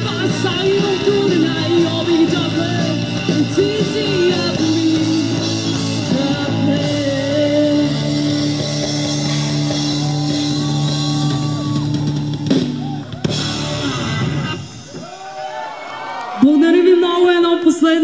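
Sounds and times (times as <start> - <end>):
live rock band playing: 0.0 - 15.5.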